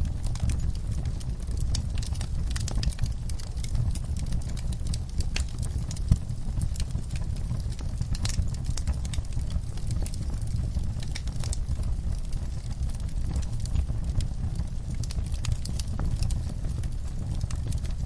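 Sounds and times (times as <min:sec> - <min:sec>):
burning logs popping: 0:00.0 - 0:18.0
fire rumbling: 0:00.0 - 0:18.0.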